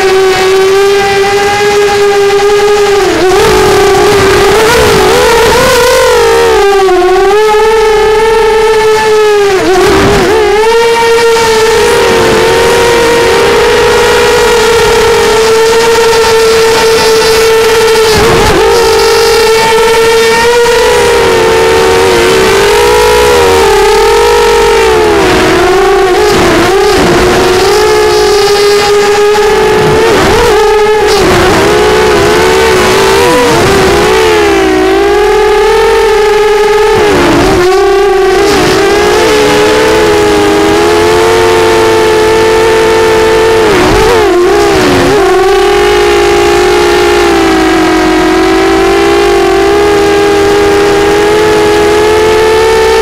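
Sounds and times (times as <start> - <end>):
drone motors buzzing whine: 0.0 - 53.0.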